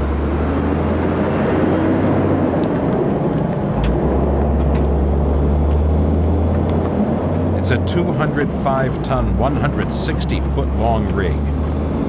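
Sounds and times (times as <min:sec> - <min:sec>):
truck tyres rumbling on road: 0:00.0 - 0:12.0.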